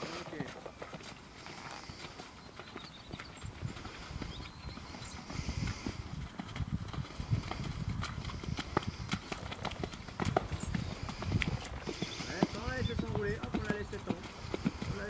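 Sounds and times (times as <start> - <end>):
horse hooves on mud: 0.0 - 15.0.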